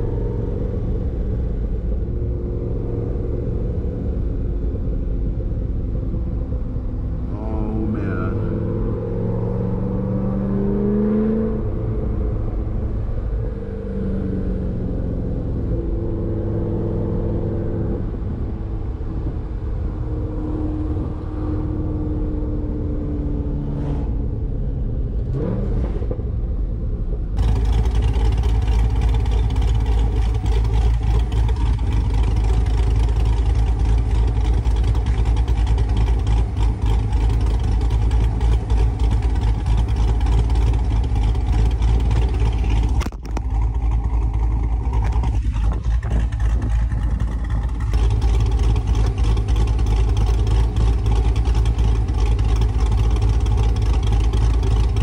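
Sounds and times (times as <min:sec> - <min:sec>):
car engine drone: 0:00.0 - 0:55.0
rough engine rumble: 0:00.0 - 0:55.0.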